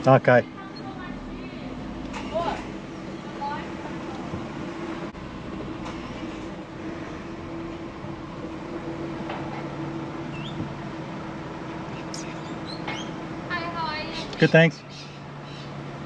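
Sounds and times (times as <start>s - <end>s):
car idling and creeping forward: 0.0s - 16.0s.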